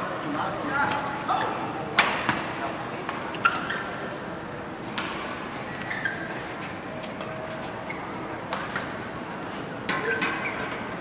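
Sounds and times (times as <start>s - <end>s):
crowd murmur in large hall: 0.0s - 11.0s.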